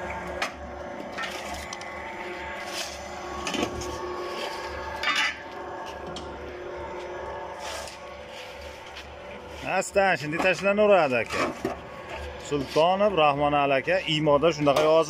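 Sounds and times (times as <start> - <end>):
brick extruder humming: 0.0 - 15.0.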